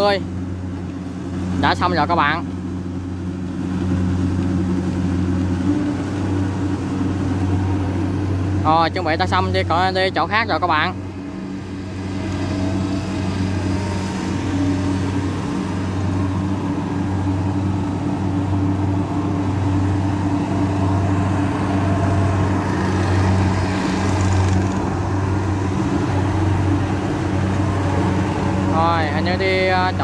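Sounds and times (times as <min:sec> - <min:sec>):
combine harvester engine running: 0:00.0 - 0:30.0.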